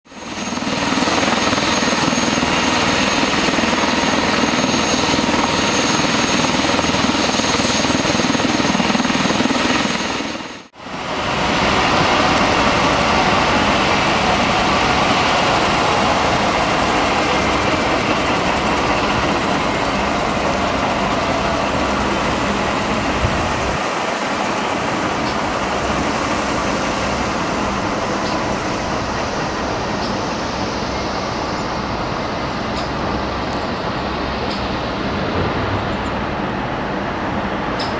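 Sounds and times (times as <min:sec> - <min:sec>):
helicopter turbine whine: 0:00.1 - 0:37.9.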